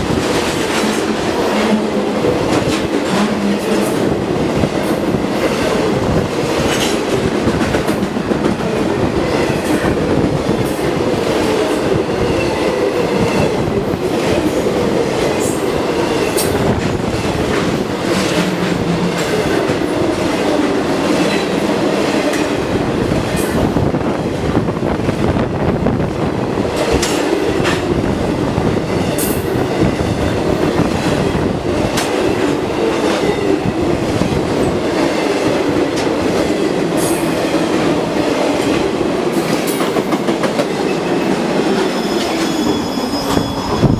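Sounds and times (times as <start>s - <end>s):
steel wheels rumbling on rail: 0.0s - 43.9s.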